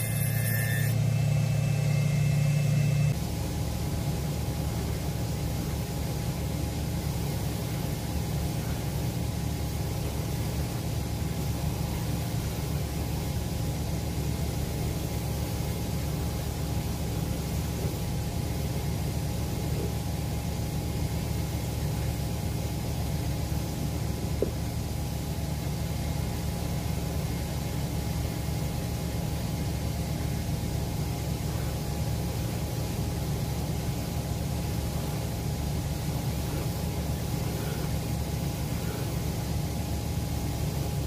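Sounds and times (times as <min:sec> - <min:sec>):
machine motor hum: 0:00.0 - 0:41.0.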